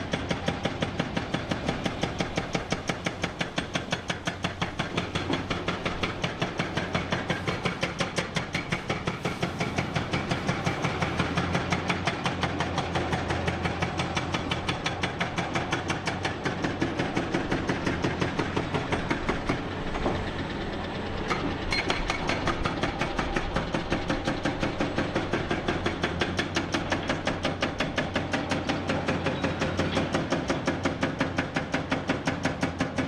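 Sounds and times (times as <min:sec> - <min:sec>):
diesel construction machinery running: 0:00.0 - 0:33.0.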